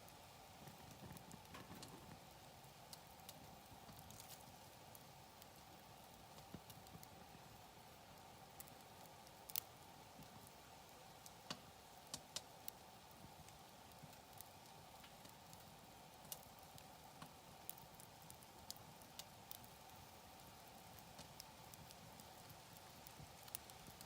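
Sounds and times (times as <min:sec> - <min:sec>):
campfire crackling: 0:00.0 - 0:24.0
faint steady hiss: 0:00.0 - 0:24.0.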